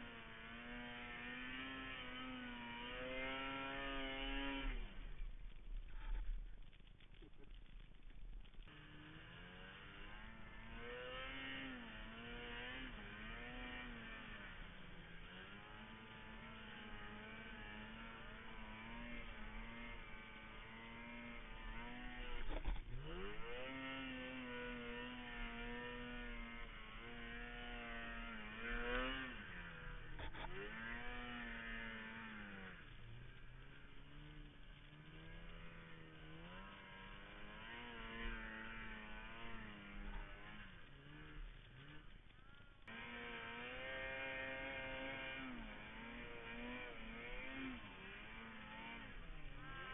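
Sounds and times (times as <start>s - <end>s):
snowmobile engine revving: 0.0s - 6.4s, 8.5s - 49.9s.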